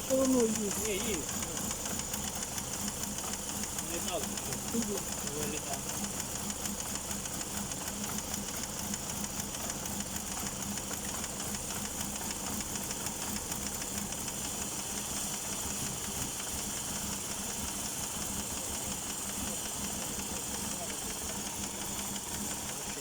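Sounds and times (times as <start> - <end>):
engine running with ticking knock: 0.0 - 23.0.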